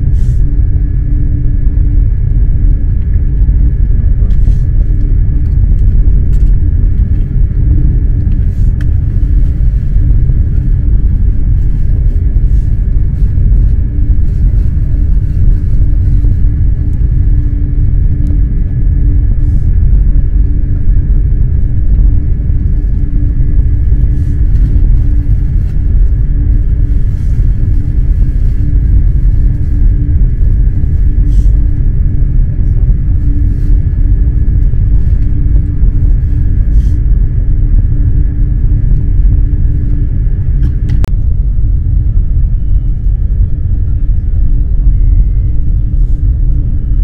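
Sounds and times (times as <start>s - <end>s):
electric train rumbling: 0.0s - 47.0s
faint high whine: 0.0s - 47.0s.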